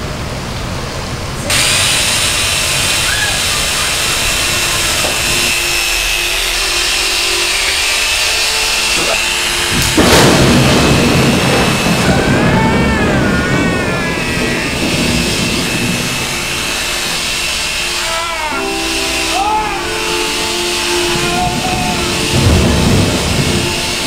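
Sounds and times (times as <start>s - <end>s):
power tool whining: 1.4s - 24.0s.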